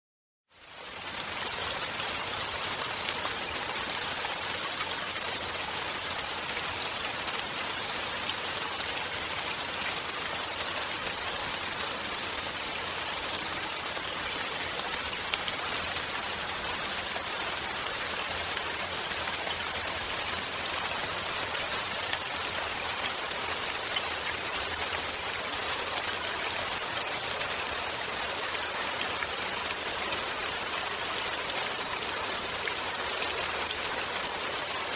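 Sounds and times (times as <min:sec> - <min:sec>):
rain on grass and concrete: 0:00.6 - 0:34.9.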